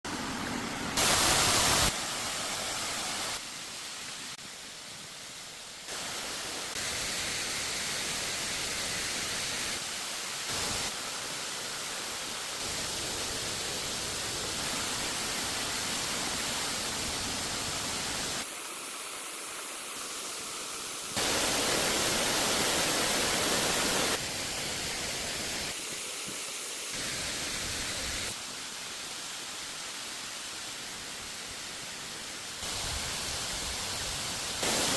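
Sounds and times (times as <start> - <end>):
waterfall rushing water: 0.1 - 34.9.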